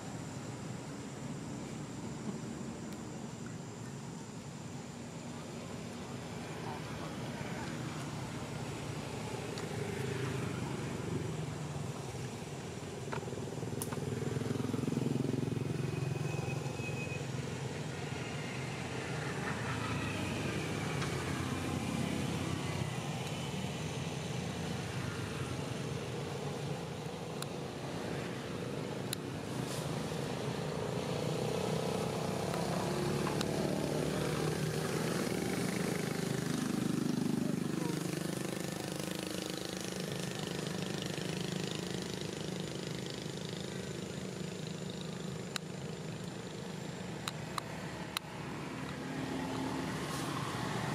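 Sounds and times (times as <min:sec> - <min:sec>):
vehicle engines passing by: 0:00.0 - 0:50.9.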